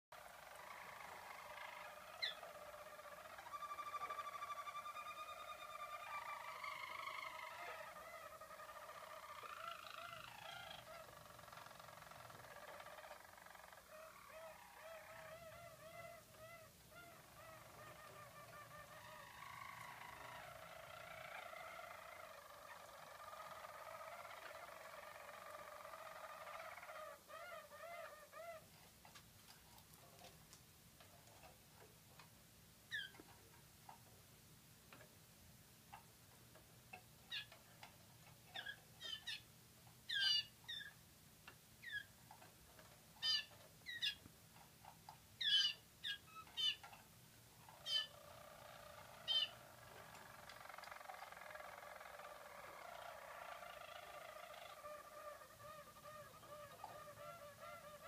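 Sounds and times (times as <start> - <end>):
canaries singing rolling song: 0.1 - 58.0.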